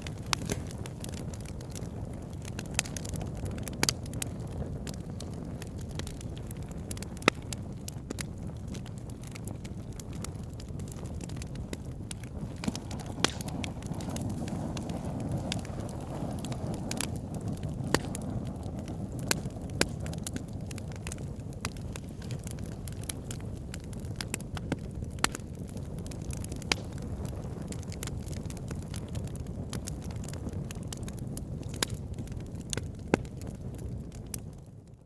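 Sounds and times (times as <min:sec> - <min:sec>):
fire crackling and popping: 0:00.0 - 0:35.0
low rush of flame: 0:00.0 - 0:35.0.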